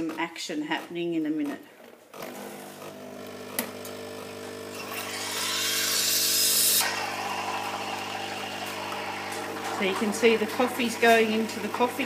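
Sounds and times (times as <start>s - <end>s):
coffee machine pump humming: 2.2s - 12.0s.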